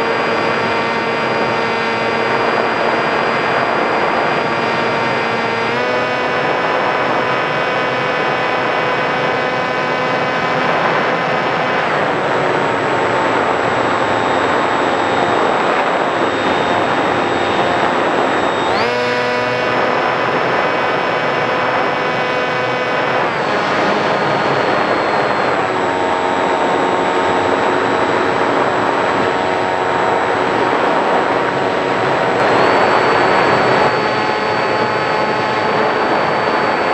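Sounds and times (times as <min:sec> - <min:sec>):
electric motor and propeller whine: 0:00.0 - 0:36.9
rushing wind: 0:00.0 - 0:36.9.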